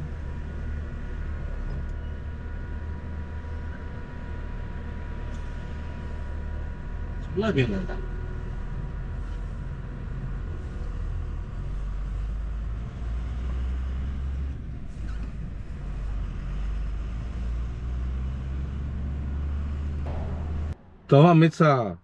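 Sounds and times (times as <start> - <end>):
truck engine and road drone: 0.0 - 22.0.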